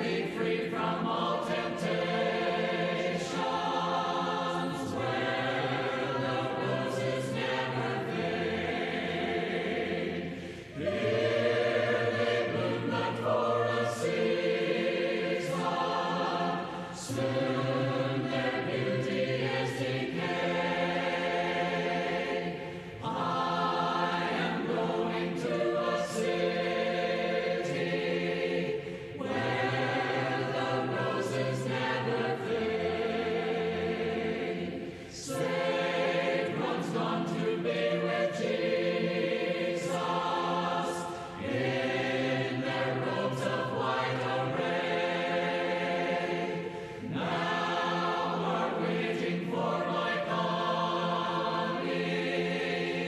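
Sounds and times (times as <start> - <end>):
choir singing a cappella: 0.0 - 53.0.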